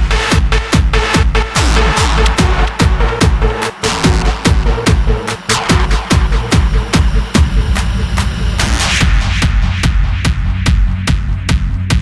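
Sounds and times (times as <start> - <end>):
hardstyle dance music: 0.0 - 12.0.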